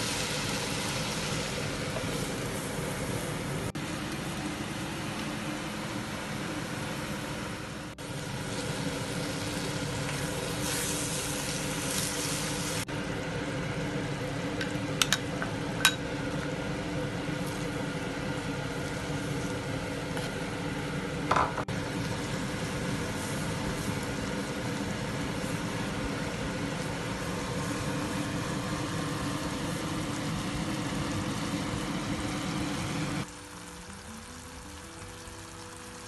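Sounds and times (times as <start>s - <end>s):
food sizzling in oil: 0.0s - 36.0s
steady background hum: 0.0s - 36.0s.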